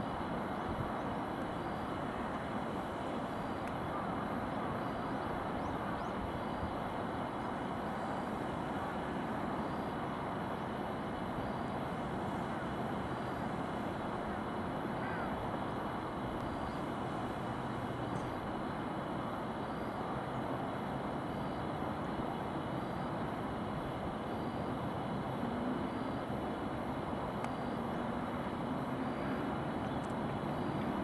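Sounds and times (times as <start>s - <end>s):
distant town and traffic hum: 0.0s - 31.0s
faint high steady tones: 0.0s - 31.0s.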